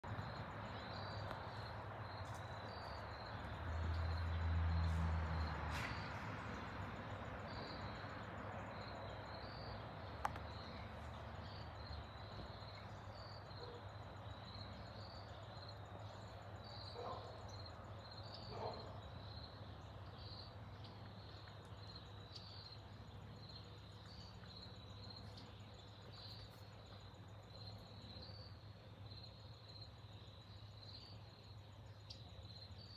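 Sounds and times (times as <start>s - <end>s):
insects chirping: 0.0s - 32.9s.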